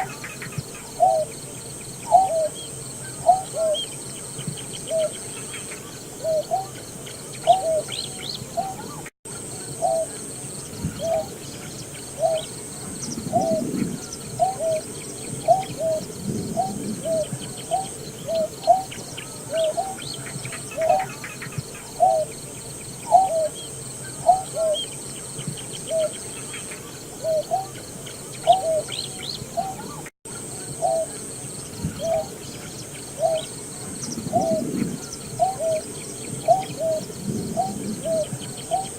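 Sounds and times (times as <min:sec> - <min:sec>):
bird low hooting calls: 0:00.0 - 0:38.9.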